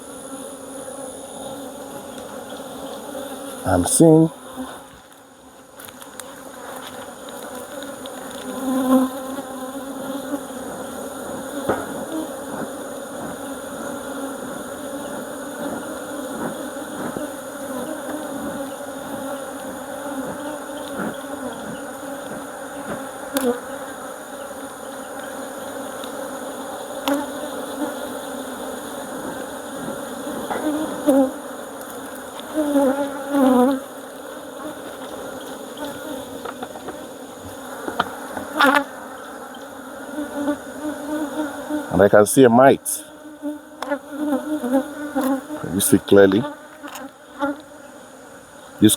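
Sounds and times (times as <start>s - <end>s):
bee flying close droning: 0.0s - 48.9s
honeybees buzzing: 0.0s - 48.9s.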